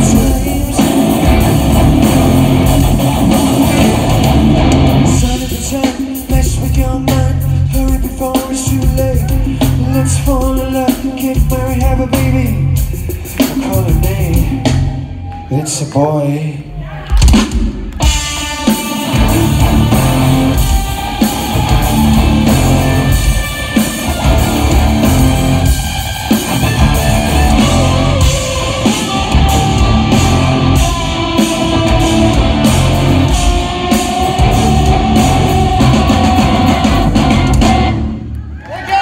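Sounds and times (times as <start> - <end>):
electric guitar: 0.0 - 15.2, 17.8 - 38.4
drum kit: 0.0 - 15.4, 17.1 - 38.3.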